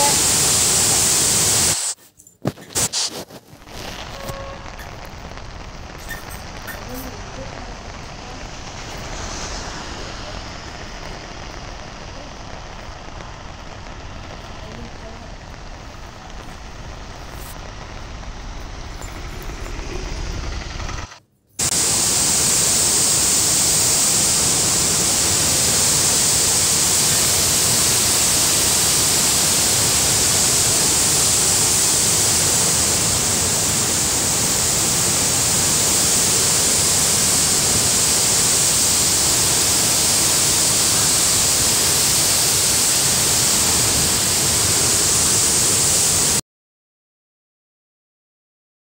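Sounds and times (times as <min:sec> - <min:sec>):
waterfall rushing torrent: 0:00.0 - 0:02.0, 0:05.4 - 0:21.0, 0:21.6 - 0:46.4.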